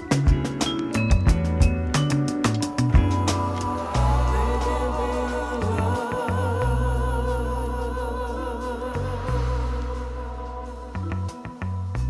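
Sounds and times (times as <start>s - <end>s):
soul-style music: 0.0s - 12.0s.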